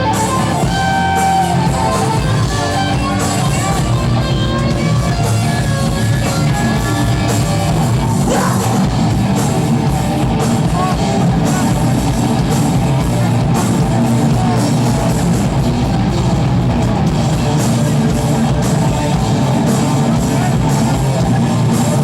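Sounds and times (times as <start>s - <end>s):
bass guitar: 0.0s - 22.0s
distorted electric guitars: 0.0s - 22.0s
drum kit: 0.0s - 22.0s.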